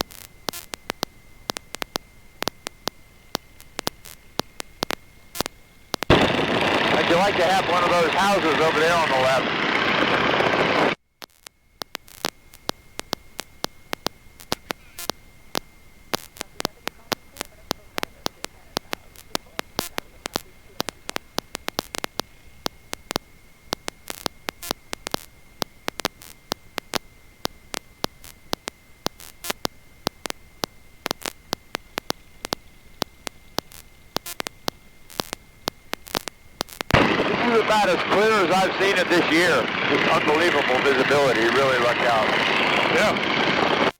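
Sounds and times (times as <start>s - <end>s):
faint steady hiss: 0.0s - 43.9s
static crackling clicks: 0.0s - 43.9s
thin high whine: 0.0s - 43.9s.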